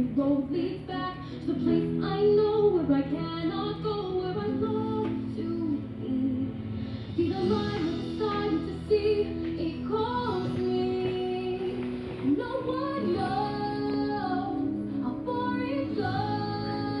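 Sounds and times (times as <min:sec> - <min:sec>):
soft instrumental backing: 0:00.0 - 0:17.0
woman singing slow ballad: 0:00.0 - 0:17.0.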